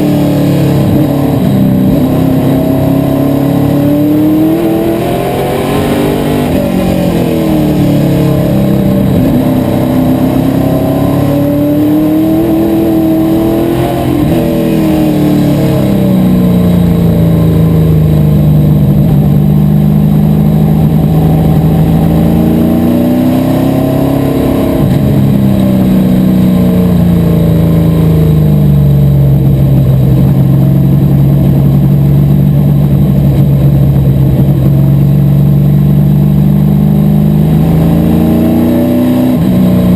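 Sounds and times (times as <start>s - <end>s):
race car engine accelerating: 0.0s - 29.5s, 30.1s - 39.9s.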